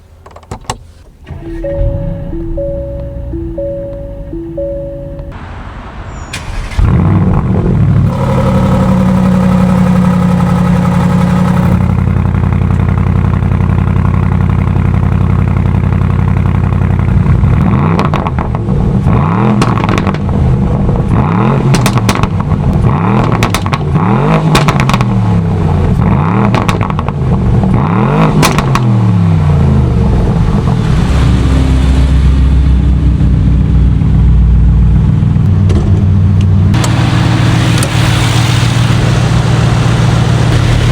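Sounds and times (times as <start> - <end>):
car engine starting and revving: 1.0 - 40.9
exhaust cracks: 6.3 - 40.9.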